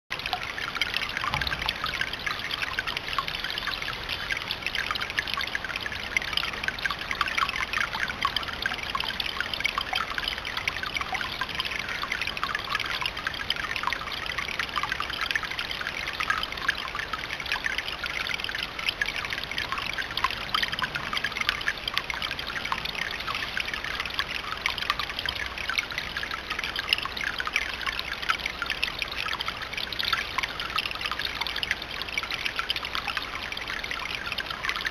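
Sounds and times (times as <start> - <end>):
fountain water trickling: 0.1 - 34.9.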